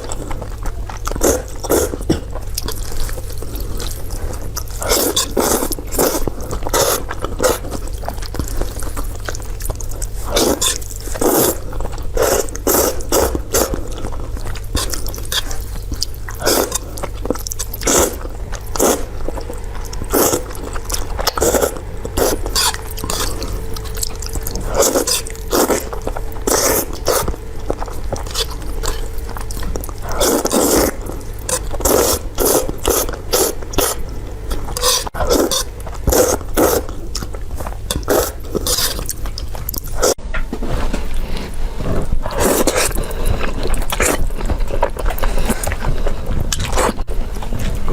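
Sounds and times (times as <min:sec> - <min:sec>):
wet chewing: 0:00.0 - 0:40.4, 0:41.1 - 0:47.9.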